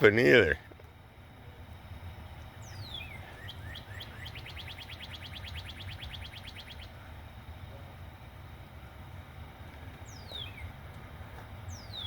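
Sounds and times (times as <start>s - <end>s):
songbird singing: 1.4s - 8.0s, 8.6s - 12.0s.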